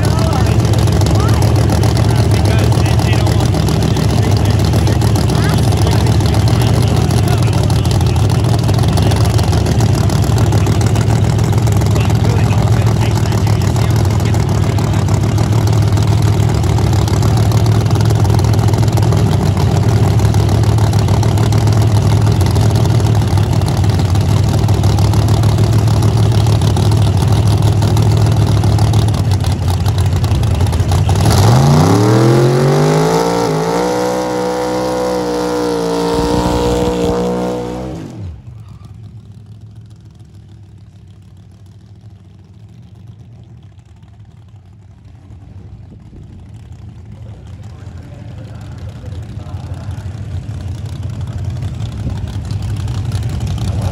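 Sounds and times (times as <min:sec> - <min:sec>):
drag car engine revving: 0:00.0 - 0:53.9
quiet engine rumble: 0:00.0 - 0:53.9.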